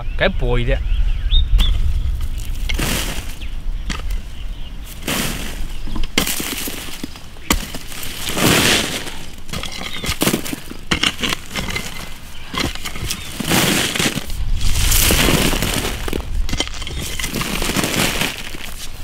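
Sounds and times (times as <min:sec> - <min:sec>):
hoe scraping and chopping earth: 0:01.6 - 0:19.0.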